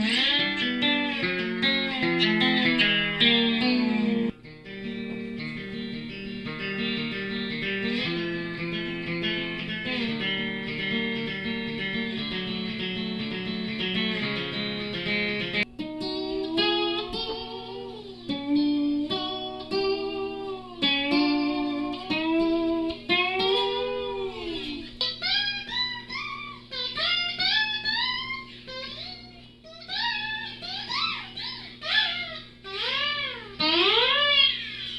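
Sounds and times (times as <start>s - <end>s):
lap steel guitar: 0.0s - 34.9s.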